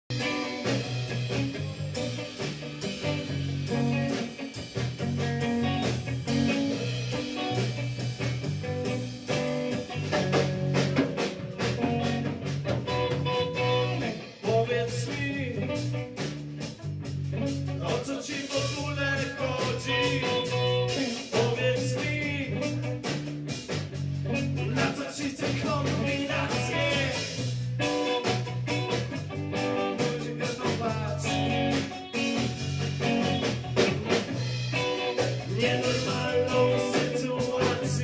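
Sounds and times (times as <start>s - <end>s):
blues guitar with bass and drums: 0.0s - 38.0s.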